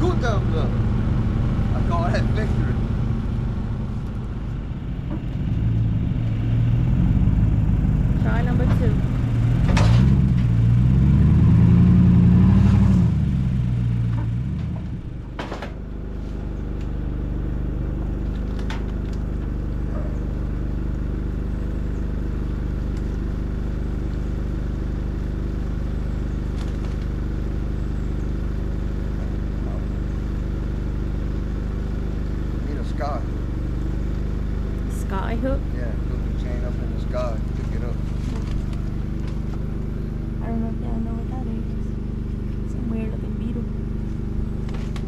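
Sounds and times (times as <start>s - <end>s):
vehicle engine revving: 0.0s - 45.0s.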